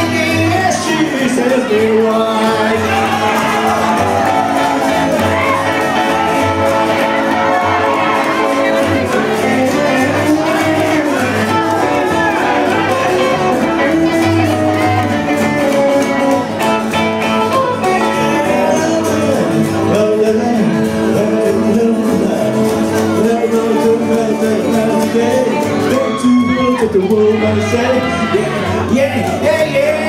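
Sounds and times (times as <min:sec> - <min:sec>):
acoustic guitars: 0:00.0 - 0:30.0
upright double bass: 0:00.0 - 0:30.0.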